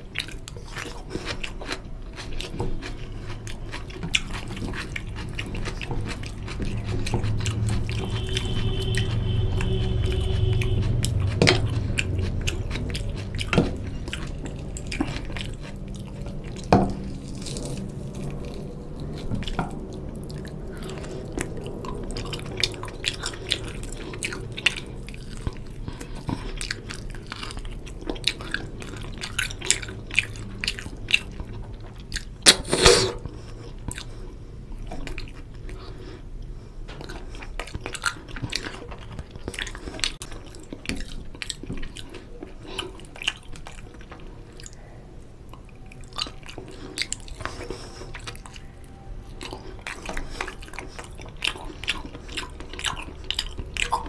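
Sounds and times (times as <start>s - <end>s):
man chewing food: 0.0s - 54.0s.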